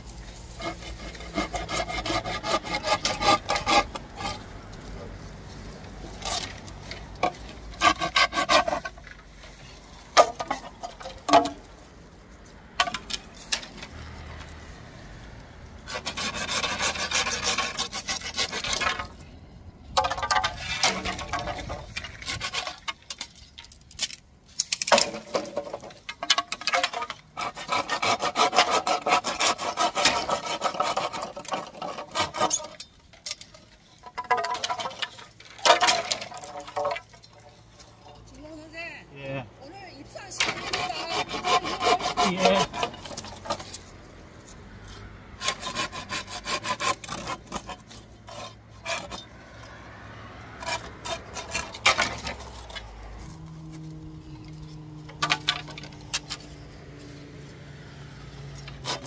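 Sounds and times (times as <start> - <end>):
hand saw cutting bamboo: 0.0 - 5.1, 6.0 - 11.7, 12.8 - 19.2, 20.0 - 38.4, 40.3 - 59.0.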